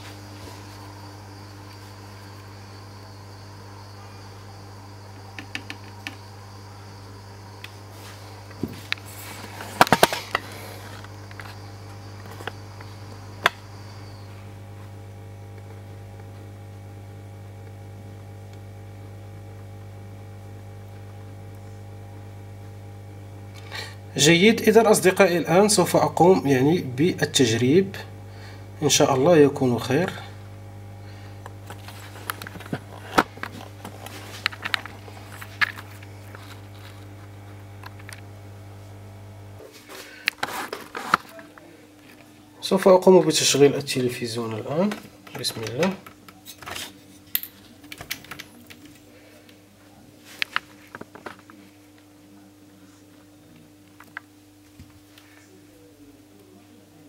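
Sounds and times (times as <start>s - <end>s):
faint high whine: 0.0s - 46.1s
low electrical hum: 0.0s - 57.0s.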